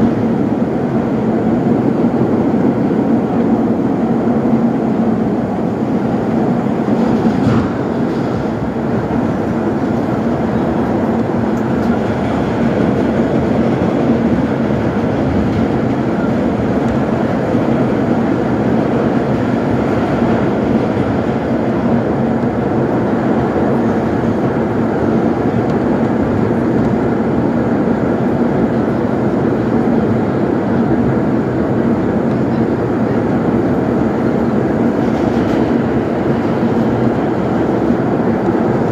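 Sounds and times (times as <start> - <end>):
rumble of train wheels on rail: 0.0 - 38.9.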